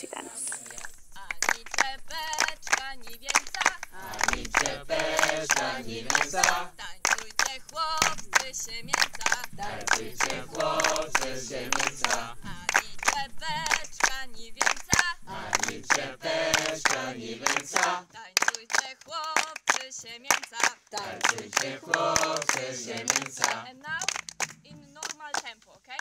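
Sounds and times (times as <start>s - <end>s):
men and women singing: 0.0s - 26.0s.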